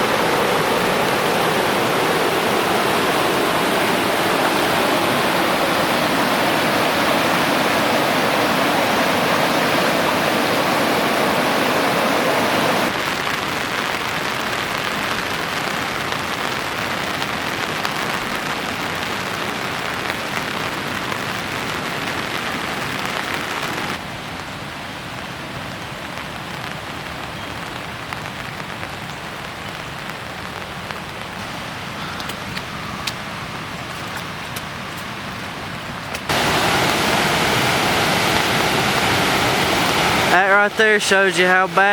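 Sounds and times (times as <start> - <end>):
creek rushing: 0.0 - 41.9.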